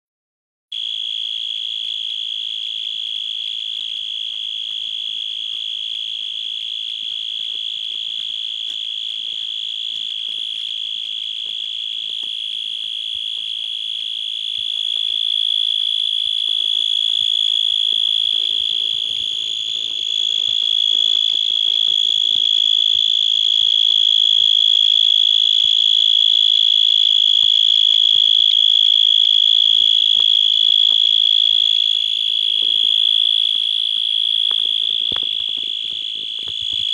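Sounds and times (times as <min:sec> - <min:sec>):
insect high-pitched trill: 0:00.7 - 0:36.9.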